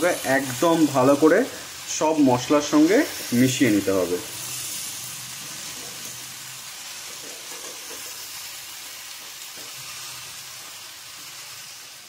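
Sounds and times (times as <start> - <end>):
cabbage sizzling in a frying pan: 0.0 - 12.0.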